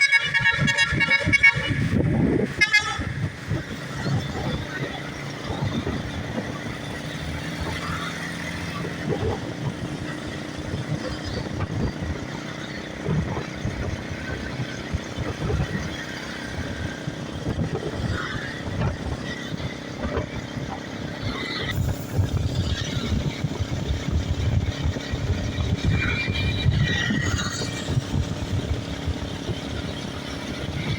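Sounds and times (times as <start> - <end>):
steady engine hum: 0.0 - 30.9.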